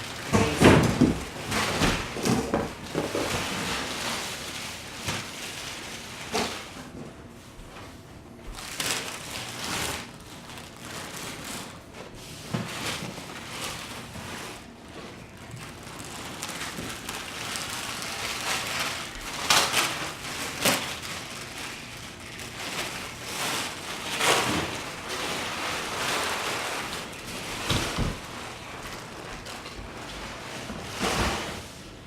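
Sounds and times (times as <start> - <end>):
scraping and rustling: 0.0 - 7.0, 8.5 - 31.8.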